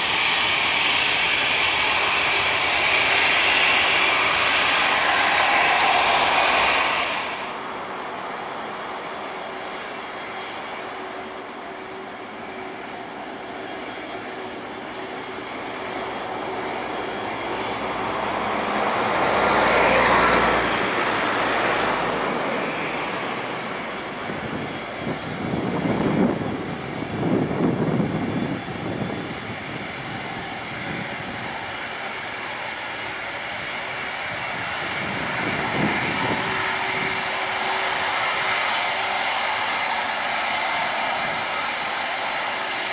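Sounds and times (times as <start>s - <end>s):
jet engines running: 0.0s - 42.9s.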